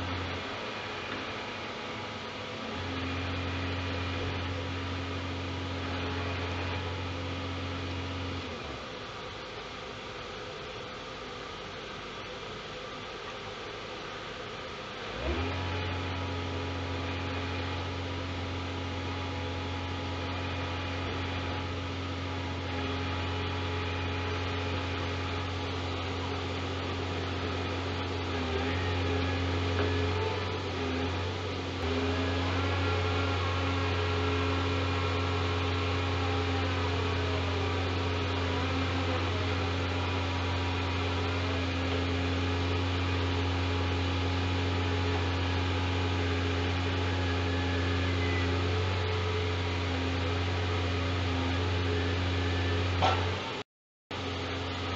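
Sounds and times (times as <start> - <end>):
truck engine running: 0.0 - 54.9.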